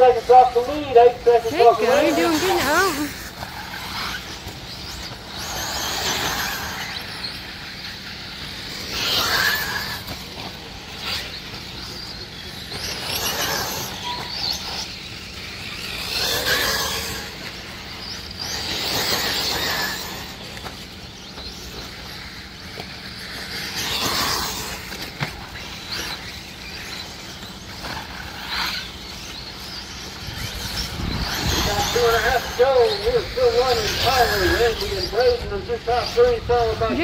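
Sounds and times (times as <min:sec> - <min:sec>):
rc cars whining past: 0:00.0 - 0:37.0.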